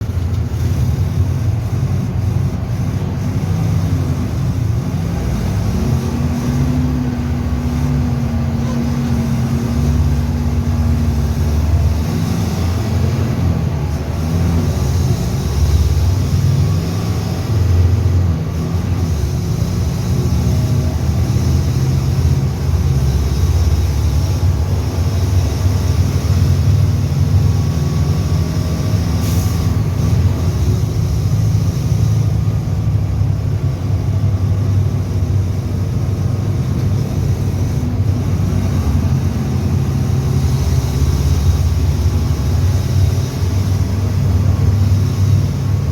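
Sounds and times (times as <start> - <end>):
bus diesel engine revving: 0.0 - 45.9.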